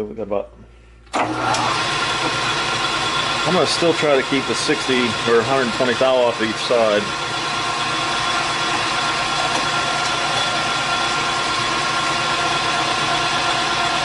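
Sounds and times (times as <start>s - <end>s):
steady whine: 1.1s - 14.0s
metal lathe running: 1.2s - 14.0s.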